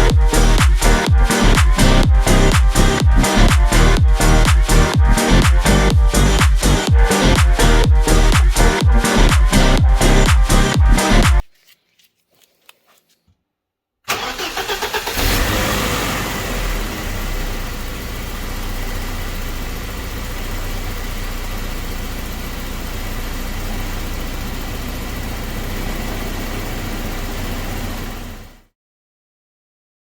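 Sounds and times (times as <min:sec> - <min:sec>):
car engine idling: 0:00.0 - 0:11.2, 0:14.1 - 0:28.6.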